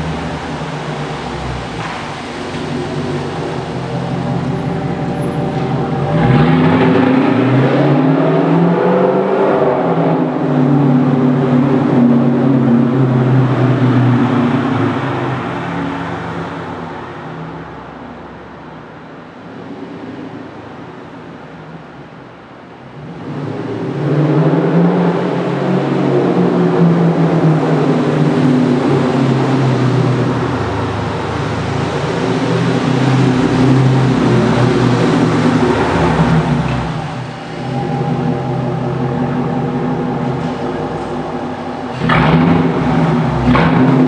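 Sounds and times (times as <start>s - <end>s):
car engine exhaust accelerating: 0.0s - 17.0s, 22.8s - 44.0s.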